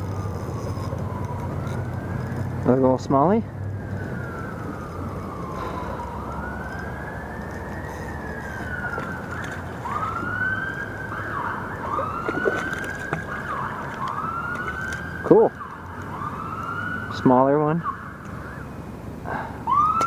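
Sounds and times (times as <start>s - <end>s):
emergency siren wailing: 0.1s - 20.0s.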